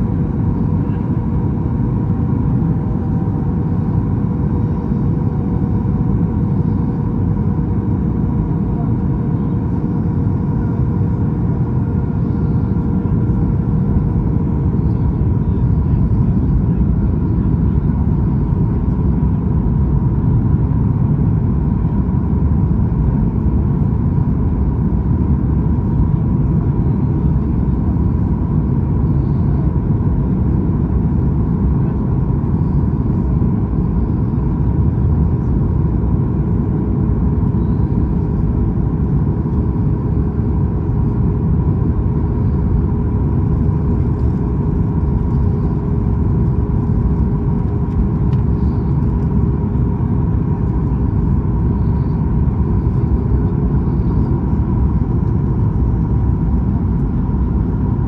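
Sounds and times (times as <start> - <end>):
airliner cabin rumble: 0.0 - 58.0
faint steady hum: 0.0 - 58.0.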